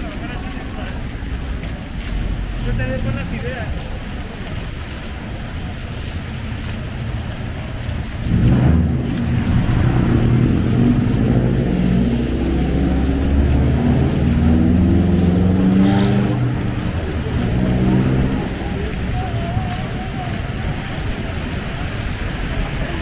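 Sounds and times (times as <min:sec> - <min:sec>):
vehicle engine running: 0:01.3 - 0:23.0.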